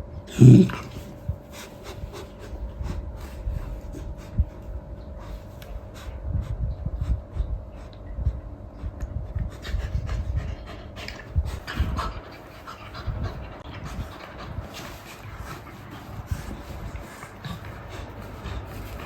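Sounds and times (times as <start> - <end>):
faint steady hum: 0.0 - 19.0
dog panting: 0.3 - 19.0.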